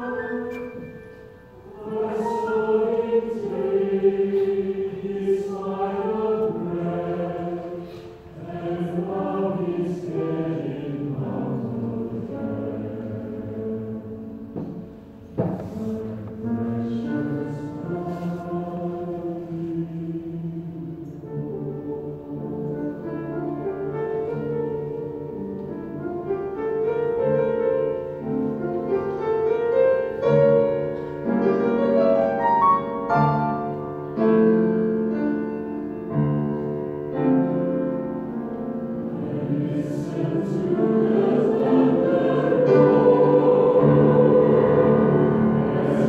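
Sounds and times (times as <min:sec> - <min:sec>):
choir singing: 0:00.0 - 0:46.0
piano accompaniment: 0:00.0 - 0:46.0.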